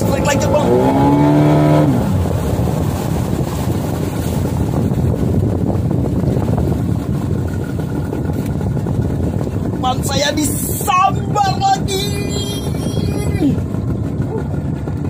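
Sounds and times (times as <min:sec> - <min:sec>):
outboard motor running: 0:00.0 - 0:15.0
water rushing past hull: 0:00.0 - 0:15.0
wind buffeting microphone: 0:00.0 - 0:15.0.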